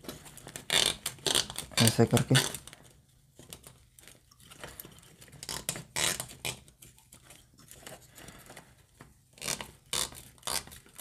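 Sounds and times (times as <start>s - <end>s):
rustle of plastic and wires: 1.4s - 11.0s.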